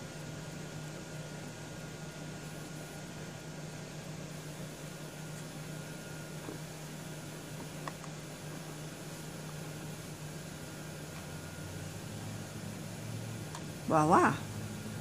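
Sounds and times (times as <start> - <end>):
room tone hum and hiss: 0.0 - 15.0.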